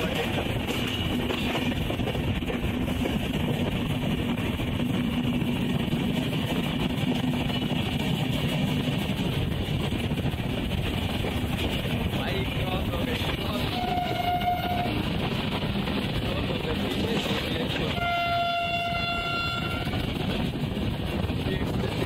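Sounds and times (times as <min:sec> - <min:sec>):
train coach rumbling: 0:00.0 - 0:22.0.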